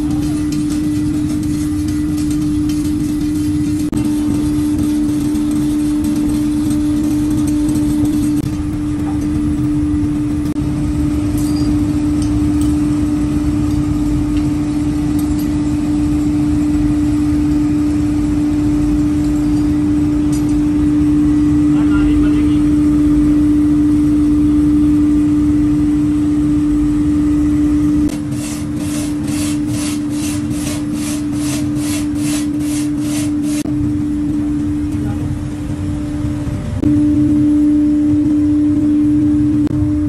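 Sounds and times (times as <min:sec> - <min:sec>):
low rumble: 0:00.0 - 0:28.2, 0:33.6 - 0:40.0
workshop machinery humming: 0:00.0 - 0:40.0.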